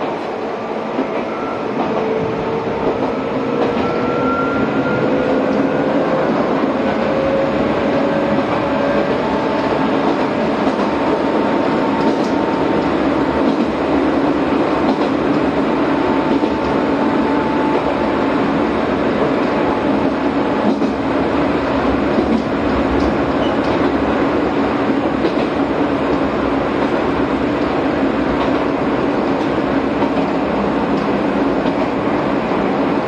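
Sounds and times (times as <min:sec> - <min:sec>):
train wheel and running noise: 0:00.0 - 0:33.0.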